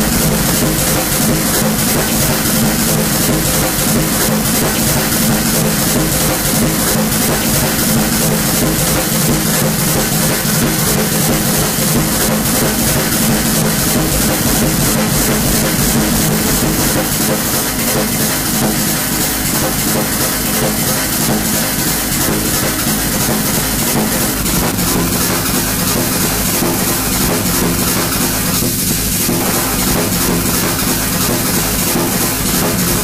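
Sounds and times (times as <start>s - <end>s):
electronic noise music: 0.0s - 33.0s.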